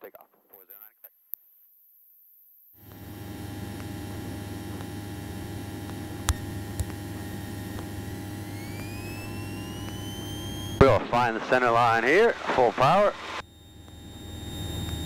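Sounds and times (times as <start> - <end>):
airplane cabin drone: 2.8 - 15.0
engine whine rising in pitch: 2.8 - 15.0.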